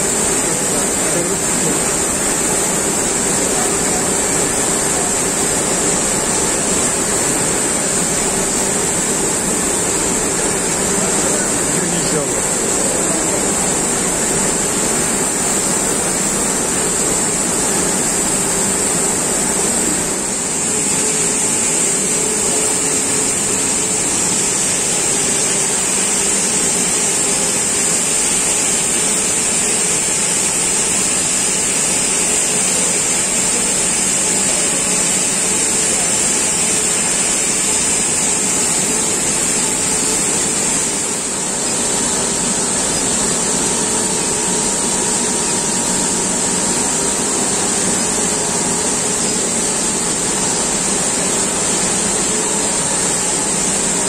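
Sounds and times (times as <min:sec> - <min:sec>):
machine running with high hiss: 0:00.0 - 0:54.0.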